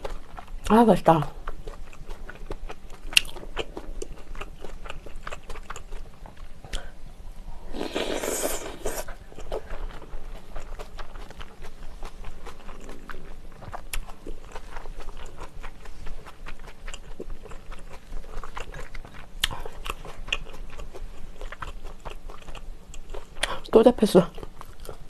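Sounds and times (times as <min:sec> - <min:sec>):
close chewing: 0:00.0 - 0:07.0, 0:07.8 - 0:25.0.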